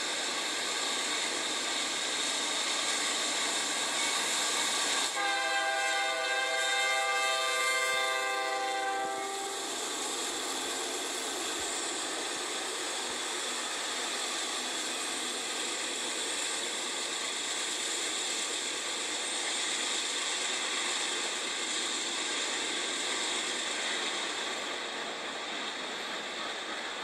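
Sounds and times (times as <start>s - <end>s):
freight train clatter and hiss: 0.0s - 27.0s.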